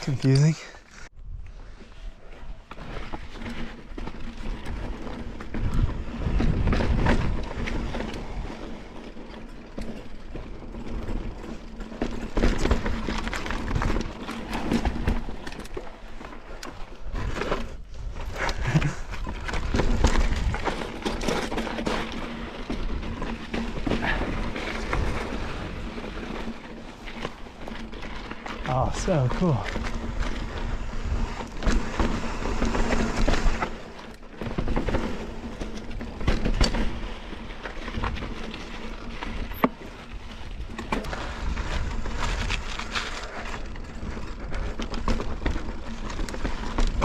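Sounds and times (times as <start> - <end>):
bike clattering and rattling: 2.2 - 47.0.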